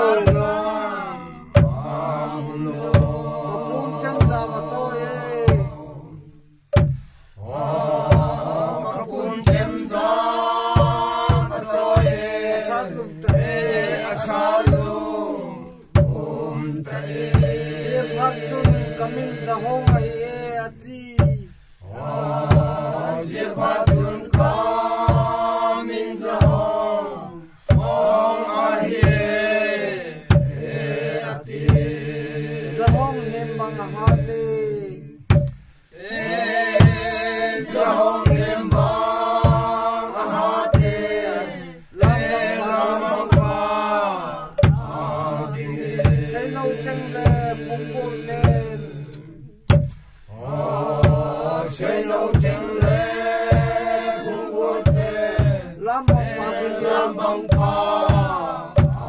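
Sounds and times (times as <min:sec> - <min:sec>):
steady knocking beat: 0:00.0 - 0:00.9, 0:01.5 - 0:06.0, 0:06.6 - 0:59.0
group of people chanting: 0:00.0 - 0:06.3, 0:07.4 - 0:20.5, 0:21.8 - 0:35.2, 0:35.9 - 0:59.0.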